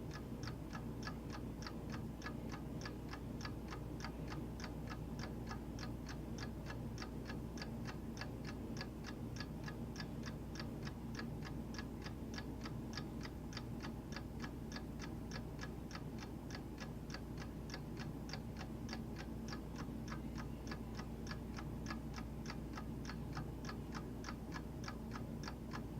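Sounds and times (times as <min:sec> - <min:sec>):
clock ticking: 0:00.0 - 0:25.9.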